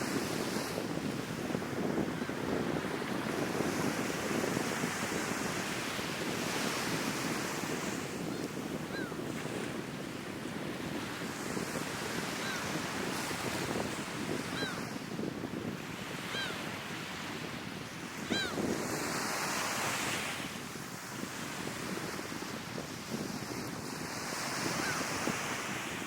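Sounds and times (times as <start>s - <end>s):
sea waves washing on shore: 0.0s - 26.0s
wind buffeting microphone: 0.0s - 26.0s.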